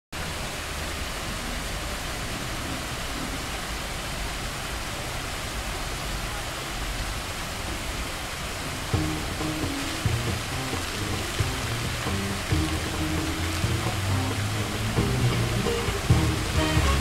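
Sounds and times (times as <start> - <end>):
fountain water splashing into pool: 0.2 - 17.0.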